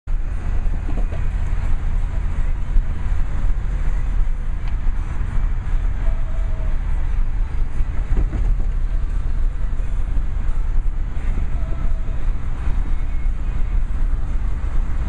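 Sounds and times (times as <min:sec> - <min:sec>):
pickup truck exhaust rumbling: 0:00.1 - 0:15.0.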